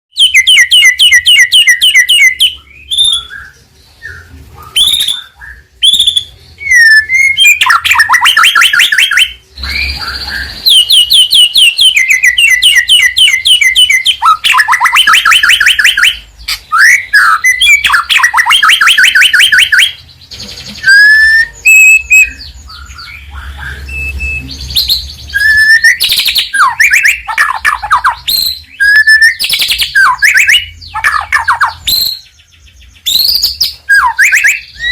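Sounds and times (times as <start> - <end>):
songbird singing trills and whistles: 0.1 - 34.9.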